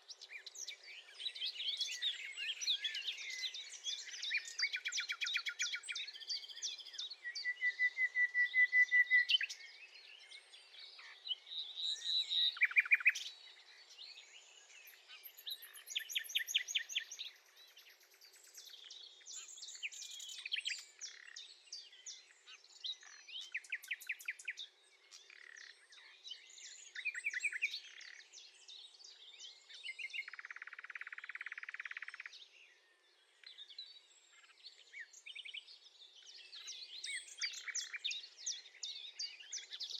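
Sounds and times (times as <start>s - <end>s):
nightingale singing: 0.0s - 32.5s, 33.4s - 39.9s.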